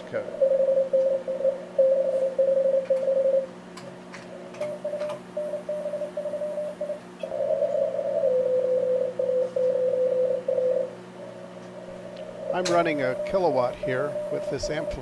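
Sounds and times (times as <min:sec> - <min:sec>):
steady low hum: 0:00.0 - 0:15.0
morse code tones: 0:00.4 - 0:03.5, 0:04.6 - 0:07.0, 0:07.6 - 0:10.9, 0:11.8 - 0:15.0.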